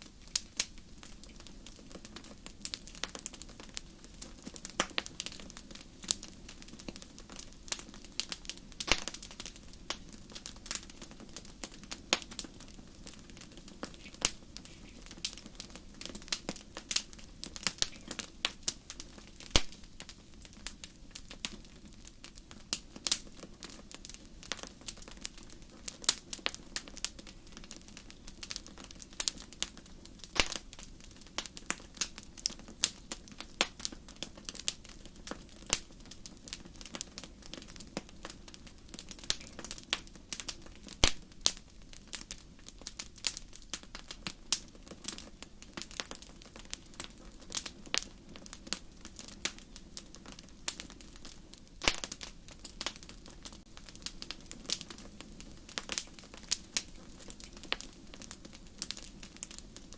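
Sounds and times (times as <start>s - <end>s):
low steady rush of fire: 0.0s - 59.9s
wood fire crackling and popping: 0.0s - 59.9s.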